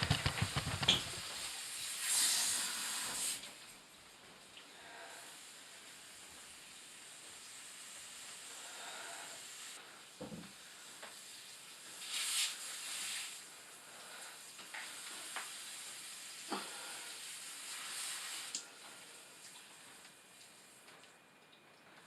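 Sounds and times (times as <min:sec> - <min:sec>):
pressurized water hissing: 0:00.0 - 0:03.4, 0:04.8 - 0:19.4.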